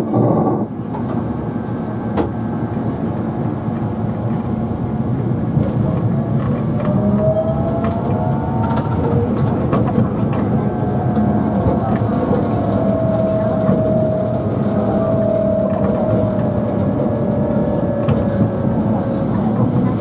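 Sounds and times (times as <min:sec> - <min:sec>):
tram rumbling on track: 0:00.0 - 0:20.0.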